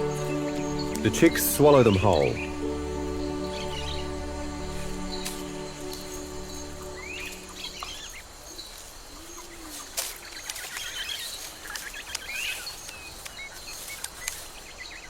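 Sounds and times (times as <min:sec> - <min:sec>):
steady natural hiss: 0:00.0 - 0:15.0.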